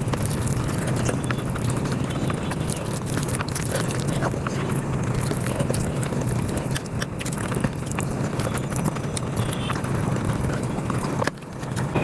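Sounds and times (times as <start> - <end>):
sped-up chewing and mouth clicks: 0.0 - 12.0.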